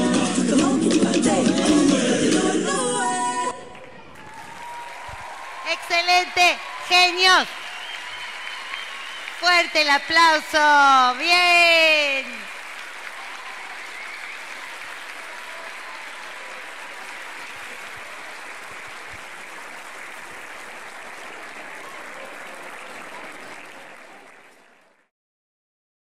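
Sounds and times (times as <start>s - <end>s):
audience applauding: 3.5s - 25.1s.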